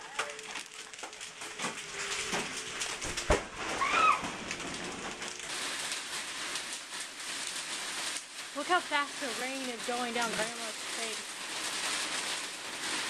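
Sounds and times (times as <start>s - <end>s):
heavy rain and hail drumming: 0.0s - 13.0s.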